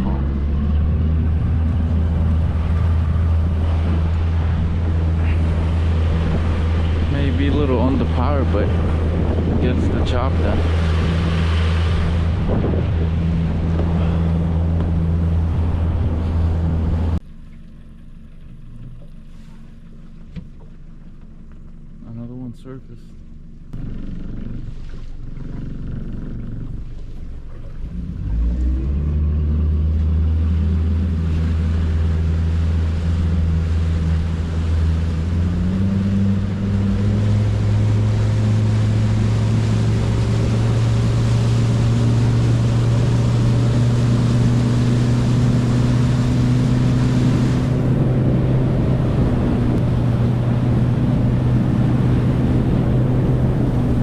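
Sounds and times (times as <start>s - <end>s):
small boat motor running: 0.0s - 54.0s.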